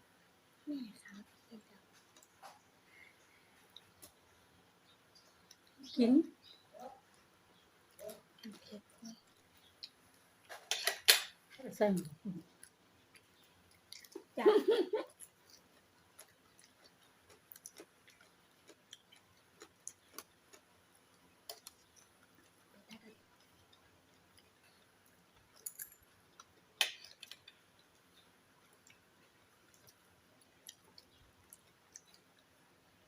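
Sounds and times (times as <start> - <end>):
soft chewing: 0.8 - 5.8, 6.4 - 10.8, 11.5 - 14.4, 15.0 - 33.0.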